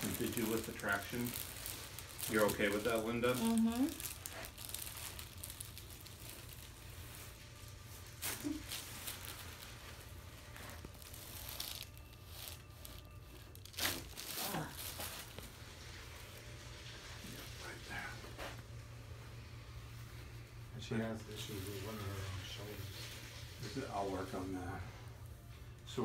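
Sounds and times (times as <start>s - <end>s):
cloth rustling and crinkling: 0.0s - 25.9s.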